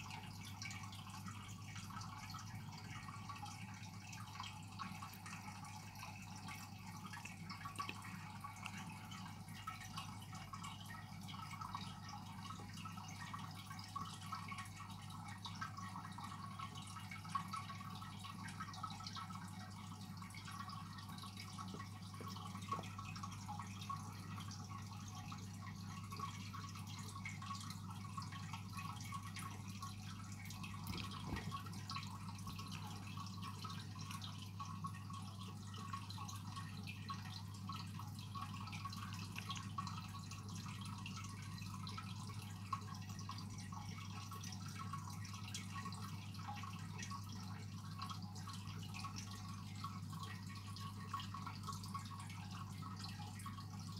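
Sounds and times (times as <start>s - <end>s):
aquarium filter hum: 0.0s - 53.9s
water trickling and dripping: 0.0s - 53.9s.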